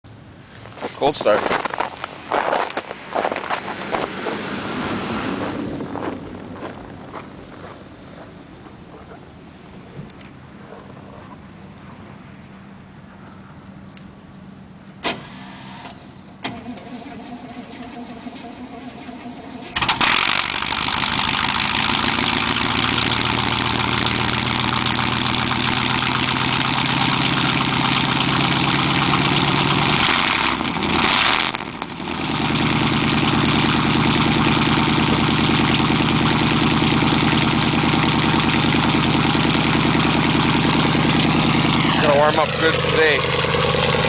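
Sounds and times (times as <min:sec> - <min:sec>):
car engine cranking and idling: 0:00.1 - 0:11.7, 0:13.6 - 0:44.0.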